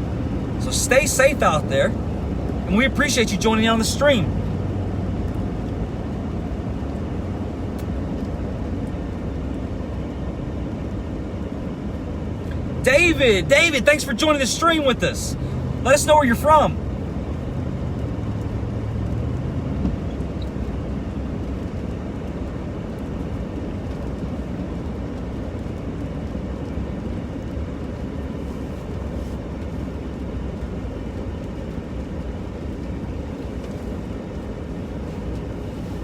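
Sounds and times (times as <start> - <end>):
road and engine noise in truck cabin: 0.0 - 36.0.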